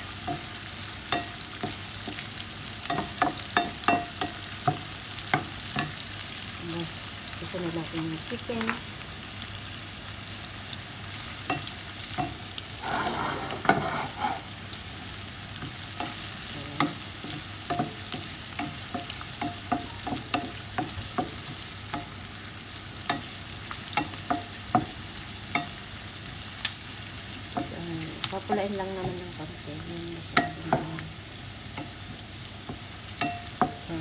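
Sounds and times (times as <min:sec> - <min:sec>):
food sizzling in hot oil: 0:00.0 - 0:34.0.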